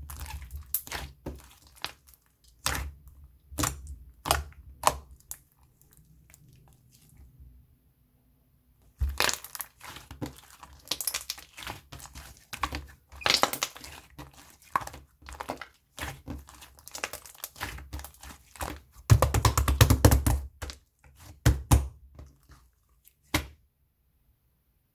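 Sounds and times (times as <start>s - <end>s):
slime squishing: 0.0s - 7.6s, 8.8s - 23.6s.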